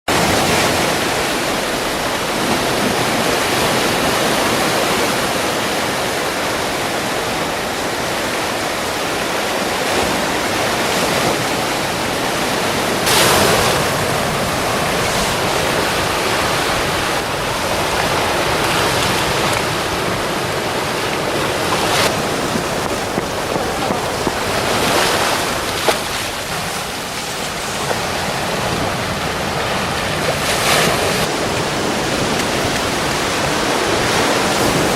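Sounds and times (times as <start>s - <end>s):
sea surf washing on shore: 0.1s - 34.9s
waves breaking: 0.1s - 34.9s.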